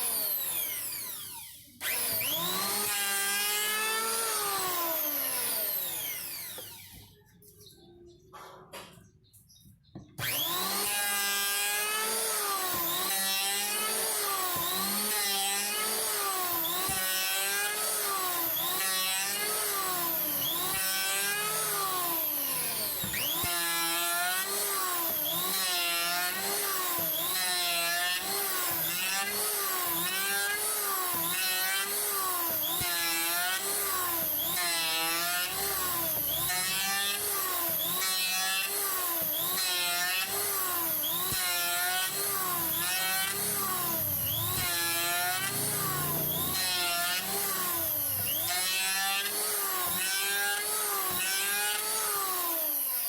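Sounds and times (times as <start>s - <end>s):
electric hand planer on wood: 0.0s - 7.0s, 10.2s - 53.0s.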